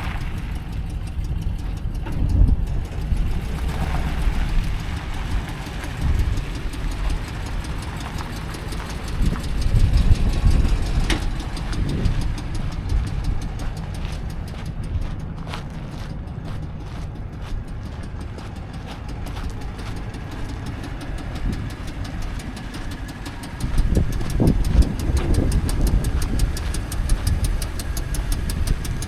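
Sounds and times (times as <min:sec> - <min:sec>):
fast even ticking: 0:00.0 - 0:29.0
truck engine idling: 0:00.0 - 0:29.0.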